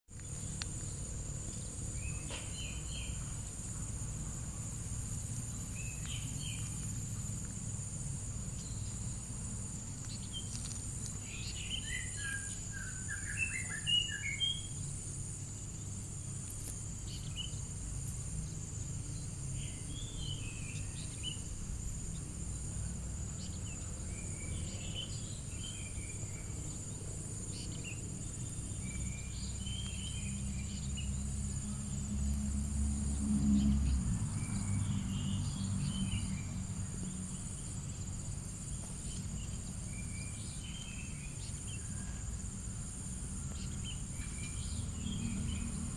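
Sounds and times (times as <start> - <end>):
birds chirping: 0.1 - 22.6, 23.2 - 32.0, 33.5 - 42.4, 43.3 - 45.9
insects trilling: 0.1 - 45.9.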